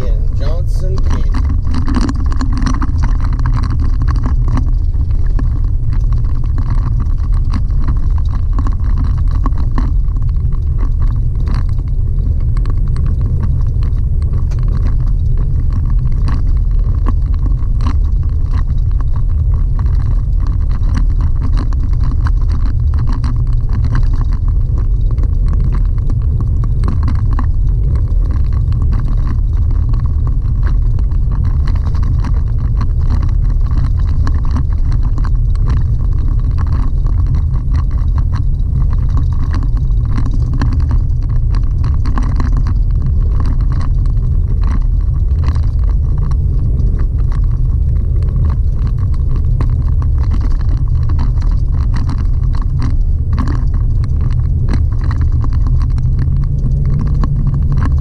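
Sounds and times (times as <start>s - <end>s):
small clicks and rattles: 0.0s - 58.0s
tyres rumbling on gravel: 0.0s - 58.0s.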